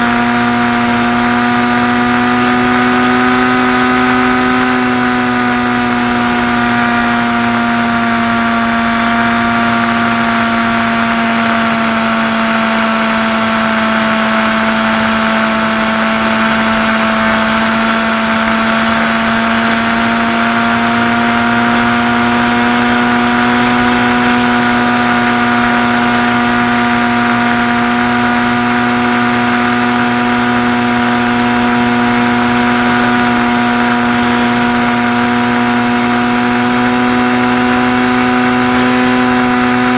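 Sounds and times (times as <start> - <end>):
model plane motor humming: 0.0 - 39.9.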